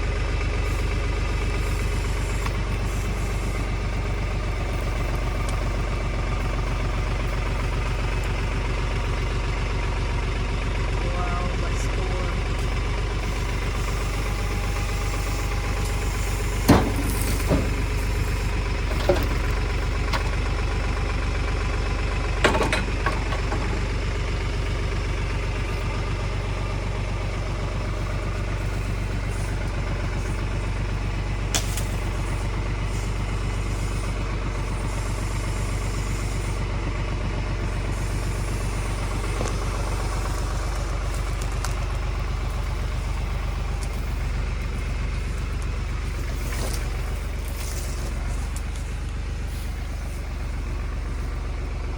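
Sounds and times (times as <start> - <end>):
tractor engine idling: 0.0 - 51.9.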